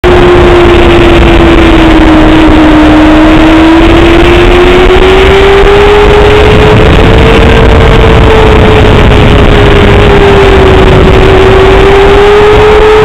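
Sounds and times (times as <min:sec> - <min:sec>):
motorcycle engine accelerating: 0:00.0 - 0:13.0
wind rush: 0:00.0 - 0:13.0.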